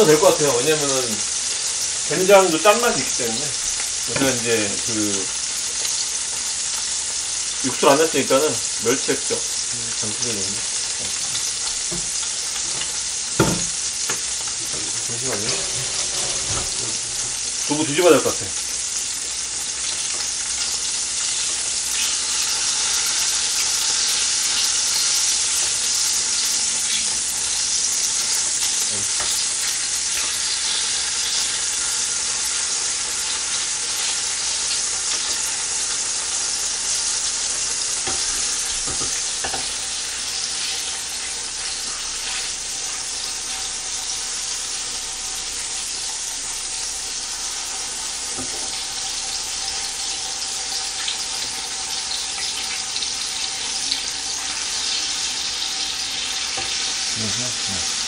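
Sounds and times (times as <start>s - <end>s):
tofu sizzling in oil: 0.0s - 58.0s.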